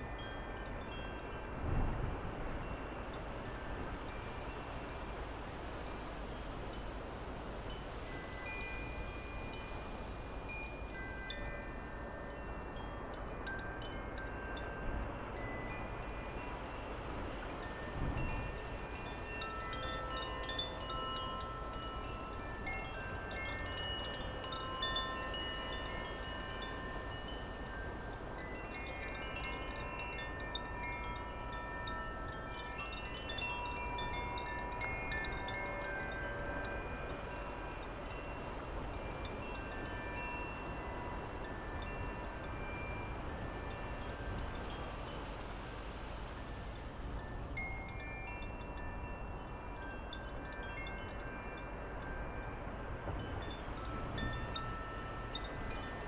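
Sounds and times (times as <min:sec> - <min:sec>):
metal wind chimes ringing: 0:00.0 - 0:45.6, 0:46.6 - 0:56.0
low wind rumble on microphone: 0:00.0 - 0:56.0.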